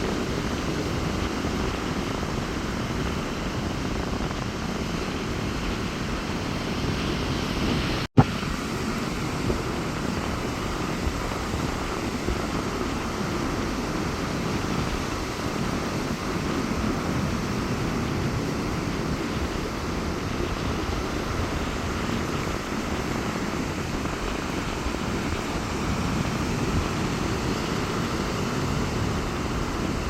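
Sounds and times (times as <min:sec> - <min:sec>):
sea surf washing onto beach: 0:00.0 - 0:30.0
wind rumbling on microphone: 0:00.0 - 0:30.0.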